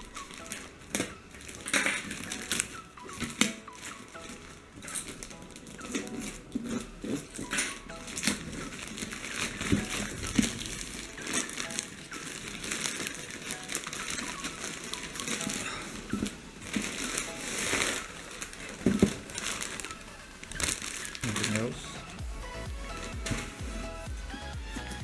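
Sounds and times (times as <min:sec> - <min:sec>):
plastic bag crinkling: 0:00.0 - 0:24.4.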